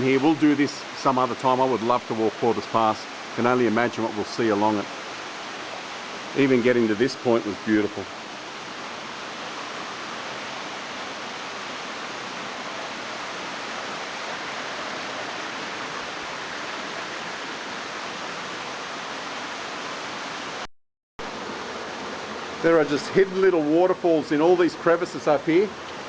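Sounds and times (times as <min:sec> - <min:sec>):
waterfall rushing over rock: 0:00.0 - 0:26.0.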